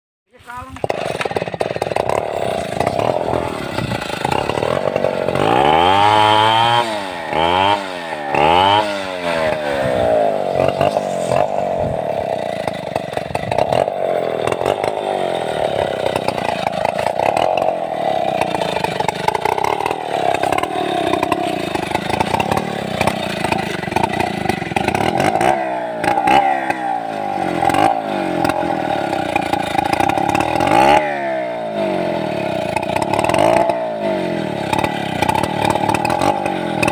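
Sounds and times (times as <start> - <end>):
chainsaw revving and cutting wood: 0.4 - 36.9.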